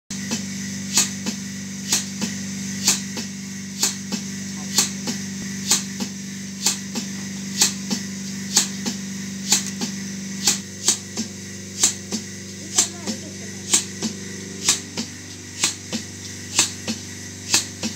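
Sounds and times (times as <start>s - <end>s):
milking pulsator clicking and hissing: 0.1s - 17.9s
vacuum pump humming: 0.1s - 17.9s.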